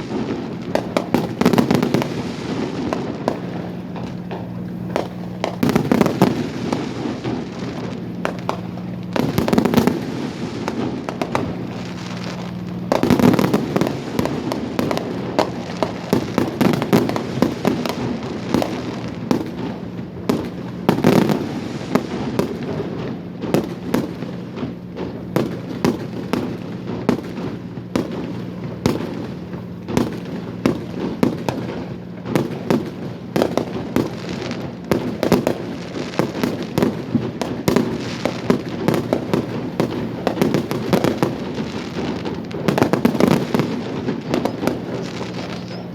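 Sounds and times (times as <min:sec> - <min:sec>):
fireworks bangs and crackling: 0:00.0 - 0:45.9
steady low hum: 0:00.0 - 0:45.9.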